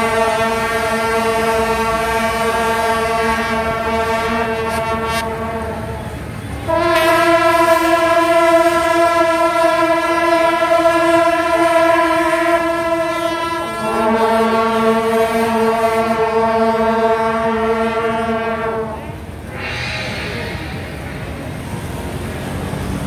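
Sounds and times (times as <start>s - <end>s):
brass band playing long notes: 0.0s - 22.4s.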